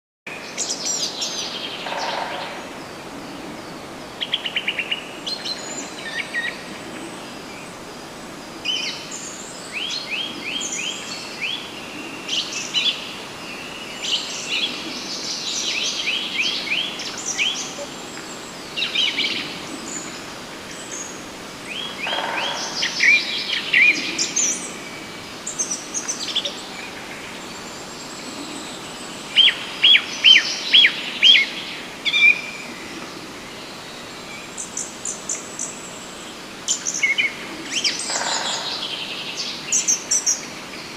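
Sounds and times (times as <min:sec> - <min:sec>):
songbirds chirping: 0:00.3 - 0:40.9
outdoor hiss: 0:02.6 - 0:40.9.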